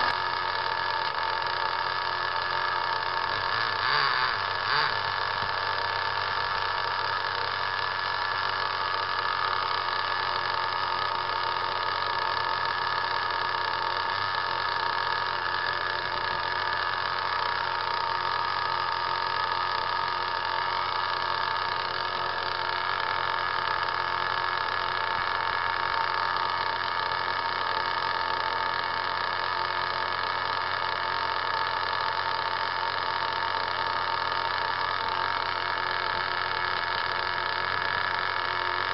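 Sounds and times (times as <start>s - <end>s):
rc car mechanical whine: 0.0s - 38.9s.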